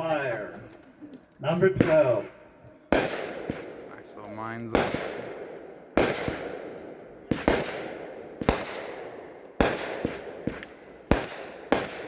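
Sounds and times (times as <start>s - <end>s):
fireworks bangs: 1.6s - 12.0s.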